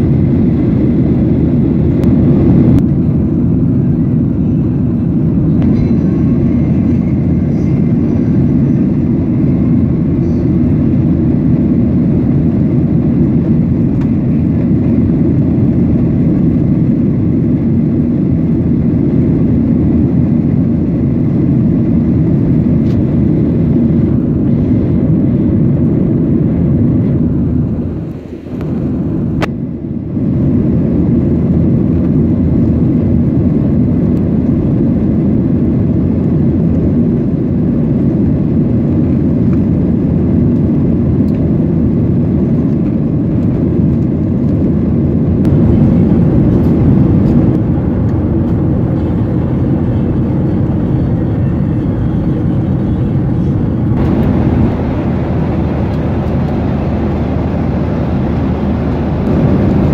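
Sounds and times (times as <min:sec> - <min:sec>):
airflow over fuselage: 0:00.0 - 0:59.9
jet engines roaring: 0:00.0 - 0:59.9.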